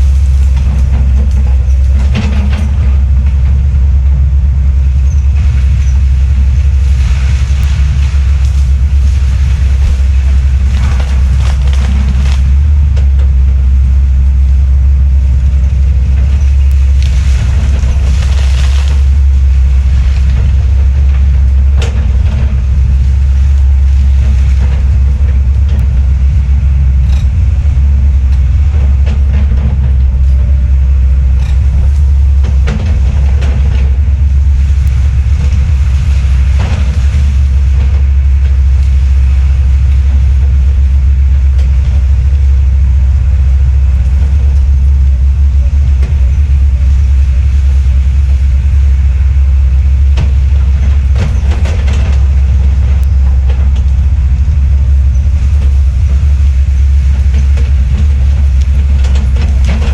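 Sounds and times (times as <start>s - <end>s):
heavy machinery deep drone: 0.0s - 59.9s.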